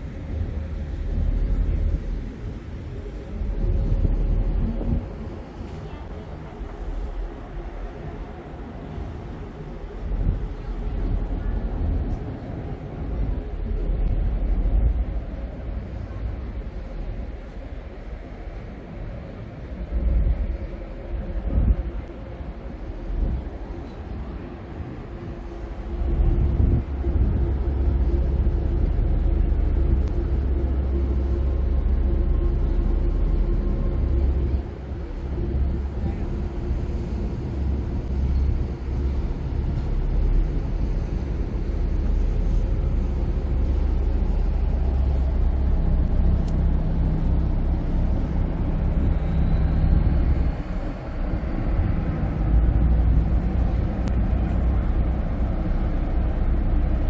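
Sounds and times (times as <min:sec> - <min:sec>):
ferry diesel engines rumbling: 0:00.0 - 0:57.0.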